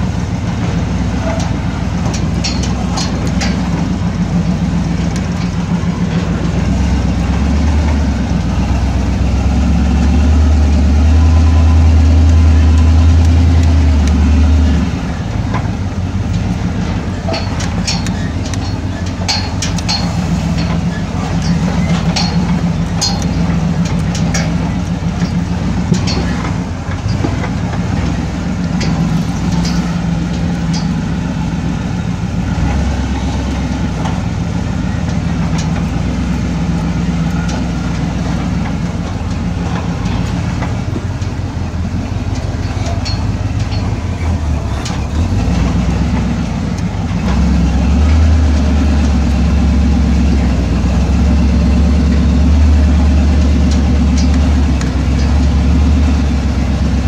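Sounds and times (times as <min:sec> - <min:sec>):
vehicle clicks and knocks: 0:00.0 - 0:57.0
vehicle engine running: 0:00.0 - 0:57.0.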